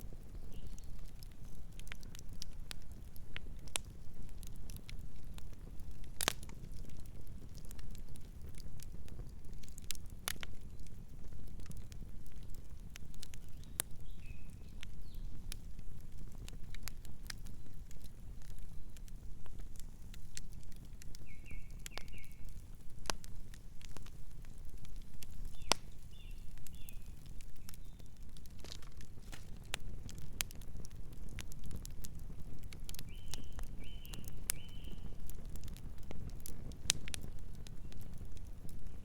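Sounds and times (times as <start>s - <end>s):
campfire crackling and snapping: 0.0s - 39.0s.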